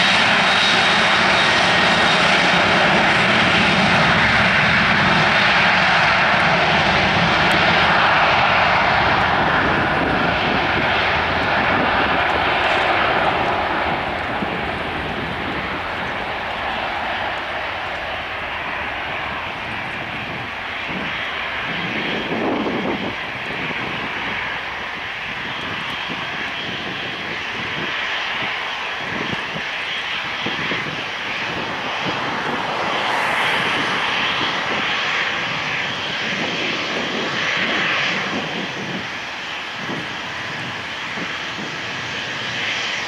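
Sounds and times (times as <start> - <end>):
jet engines at takeoff: 0.0 - 43.0.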